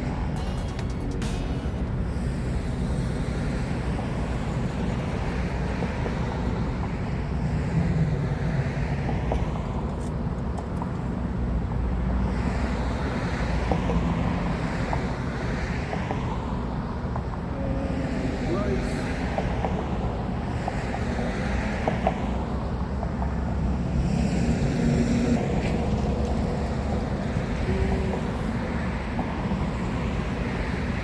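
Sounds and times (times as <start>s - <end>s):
cars passing: 0.0s - 31.0s
traffic rumble: 0.0s - 31.0s.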